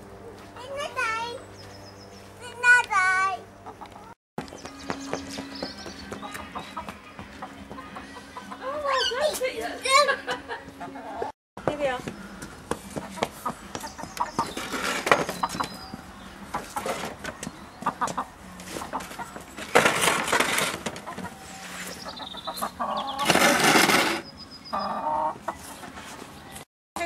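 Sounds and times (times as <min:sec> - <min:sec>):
chickens clucking: 0:03.5 - 0:04.2, 0:04.9 - 0:26.5
clicks and scratches on patio: 0:03.8 - 0:24.4, 0:25.4 - 0:26.7.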